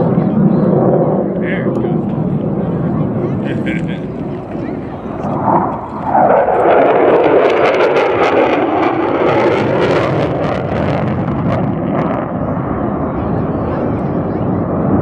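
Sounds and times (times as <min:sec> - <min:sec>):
afterburner crackling: 0:00.0 - 0:15.0
jet engine in afterburner: 0:00.0 - 0:15.0.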